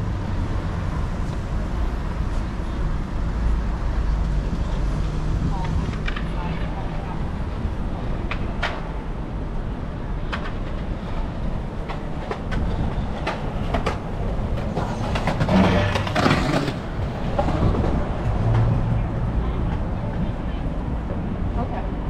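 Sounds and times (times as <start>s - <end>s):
wind and road rumble: 0.0s - 22.0s.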